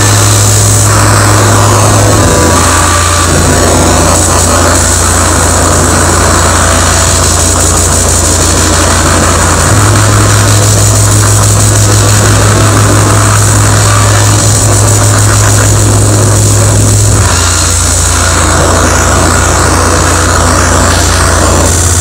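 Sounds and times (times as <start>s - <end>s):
experimental electronic noise music: 0.0s - 22.0s
heavy low drone: 0.0s - 22.0s
hiss and distortion: 0.0s - 22.0s.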